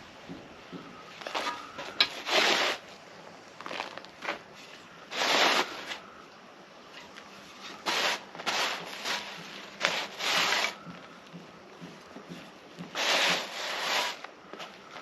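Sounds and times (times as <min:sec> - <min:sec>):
hands rustling through soil: 0:00.9 - 0:15.0.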